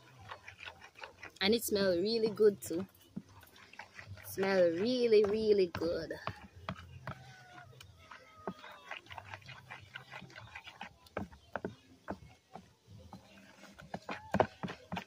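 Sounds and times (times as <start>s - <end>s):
wooden spoon scraping plastic bowl: 0.0s - 15.0s.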